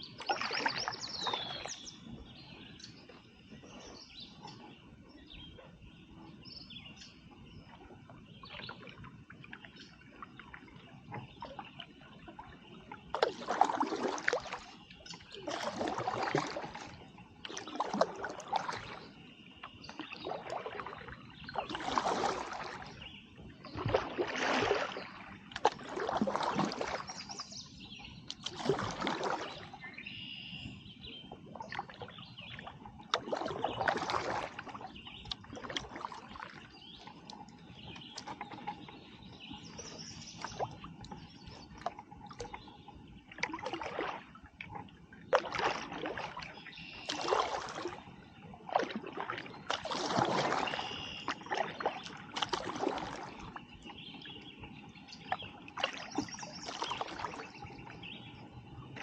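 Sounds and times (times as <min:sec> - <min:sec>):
kayak paddle splashing in water: 0:00.0 - 0:59.0.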